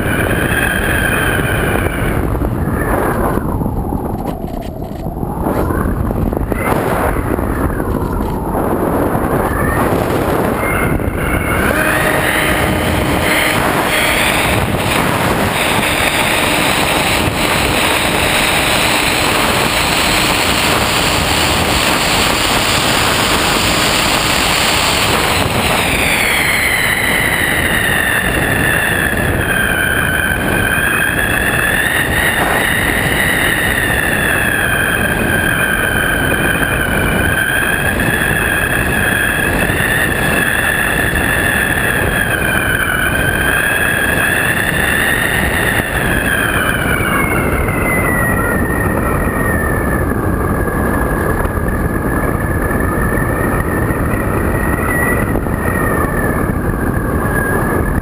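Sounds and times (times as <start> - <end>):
electric motor propeller whining: 0.0 - 58.0
wind rushing: 0.0 - 58.0.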